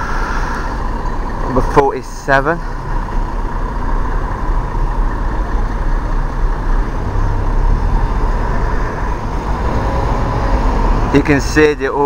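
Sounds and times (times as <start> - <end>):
diesel bus engine passing: 0.0 - 12.0
street traffic: 0.0 - 12.0.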